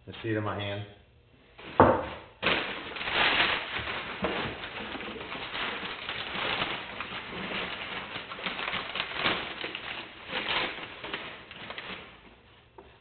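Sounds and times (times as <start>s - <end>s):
packing material rustling and crinkling: 2.4s - 13.0s.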